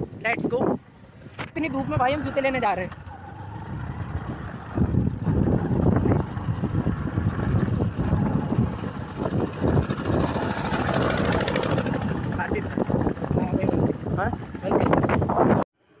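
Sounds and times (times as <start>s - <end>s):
wind buffeting microphone: 0.0s - 15.7s
motorcycle engine running: 1.0s - 15.6s.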